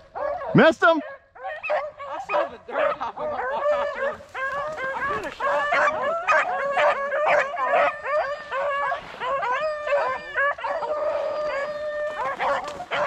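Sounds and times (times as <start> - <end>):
dogs baying: 0.0 - 13.0
dog howling: 0.1 - 13.0.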